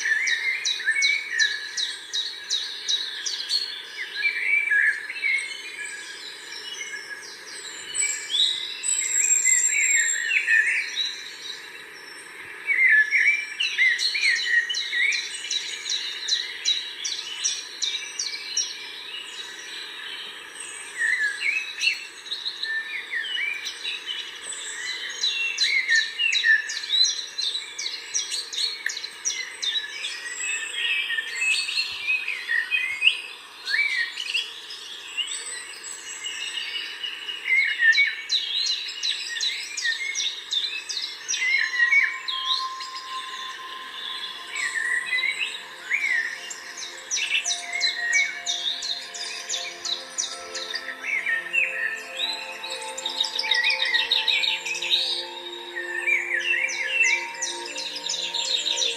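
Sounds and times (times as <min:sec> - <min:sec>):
birds singing and chirping: 0:00.0 - 0:58.9.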